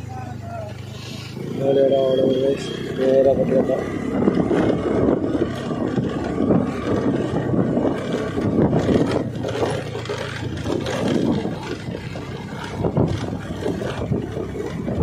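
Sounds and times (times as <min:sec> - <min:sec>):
motorcycle engine: 0:00.0 - 0:15.0
wind buffeting microphone: 0:01.4 - 0:15.0.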